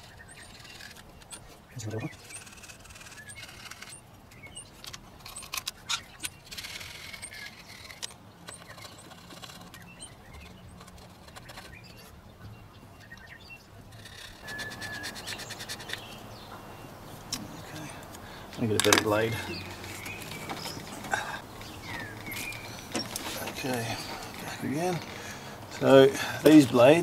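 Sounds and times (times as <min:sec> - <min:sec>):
faint bird chirps: 0:00.0 - 0:26.8.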